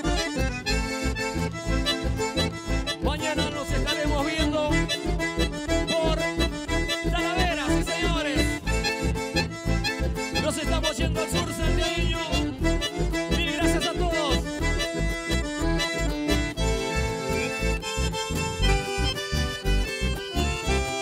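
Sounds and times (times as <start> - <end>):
accordion melody: 0.0 - 21.0
bass and drum beat: 0.1 - 20.9.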